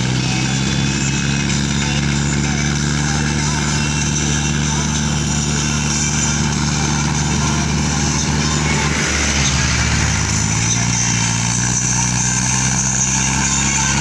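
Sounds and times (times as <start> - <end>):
passing road traffic: 0.0 - 14.0
tractor diesel engine running: 0.0 - 14.0.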